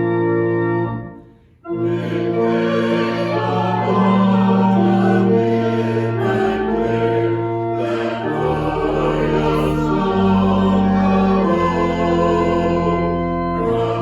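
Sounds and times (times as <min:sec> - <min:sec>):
slow sacred music chords: 0:00.0 - 0:14.0.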